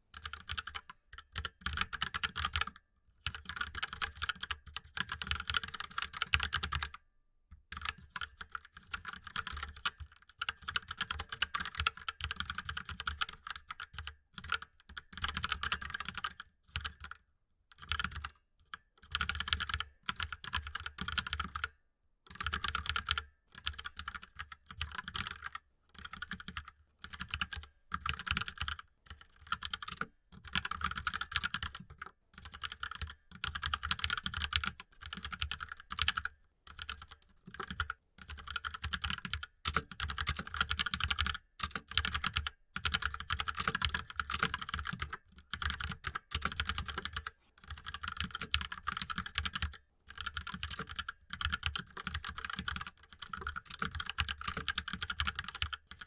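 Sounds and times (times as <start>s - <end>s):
mechanical keyboard typing: 0.2s - 6.9s, 7.7s - 17.2s, 17.8s - 18.3s, 19.1s - 21.7s, 22.3s - 56.0s.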